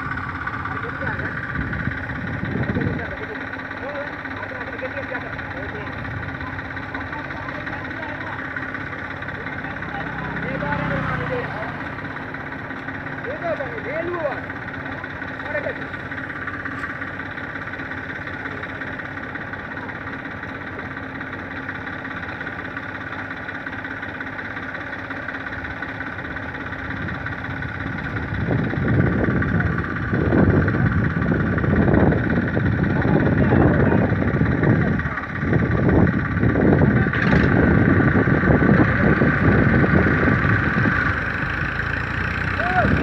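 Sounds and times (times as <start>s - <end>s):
tractor diesel engine revving: 0.0s - 43.0s.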